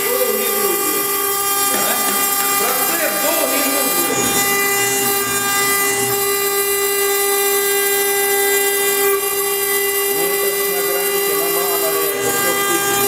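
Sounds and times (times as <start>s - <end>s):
router spindle milling stone: 0.0s - 13.0s.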